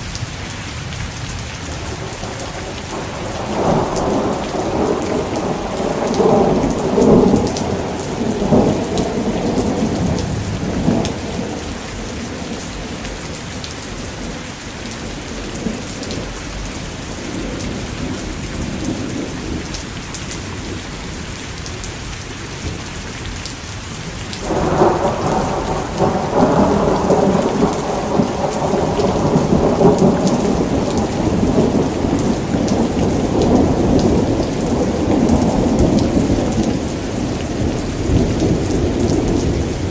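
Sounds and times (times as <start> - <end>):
steady rain falling: 0.0 - 39.9
rolling thunder: 1.7 - 20.9, 24.4 - 39.9.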